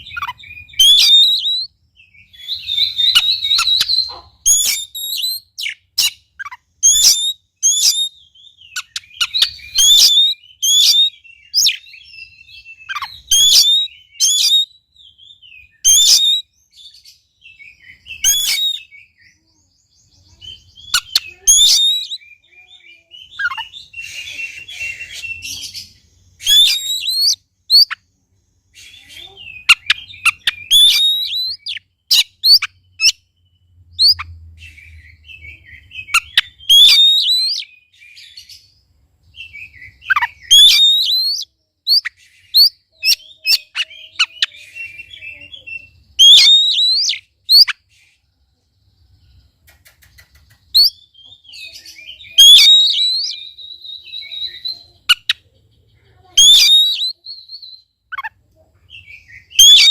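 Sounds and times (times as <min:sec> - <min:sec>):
bird singing whistles and chirps: 0:00.0 - 0:58.3, 0:58.9 - 0:59.9.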